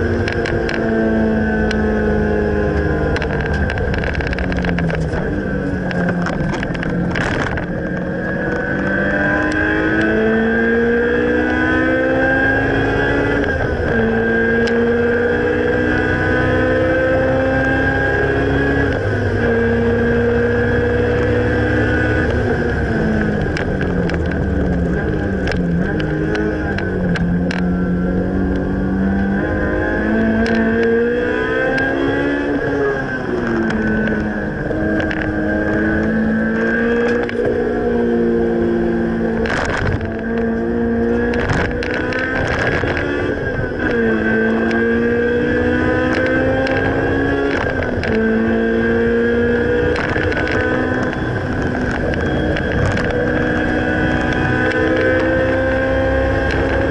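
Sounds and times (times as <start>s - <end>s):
car engine revving on track: 0.0s - 56.9s.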